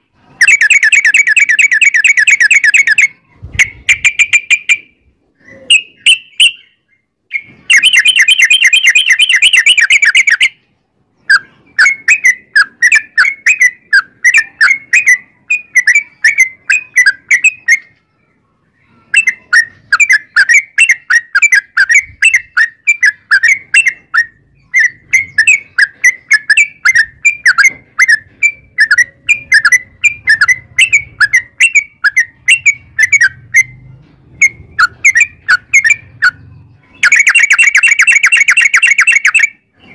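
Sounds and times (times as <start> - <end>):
bird singing rapid chattering whistles: 0.4 - 10.6, 11.2 - 17.9, 19.2 - 33.8, 34.4 - 39.9.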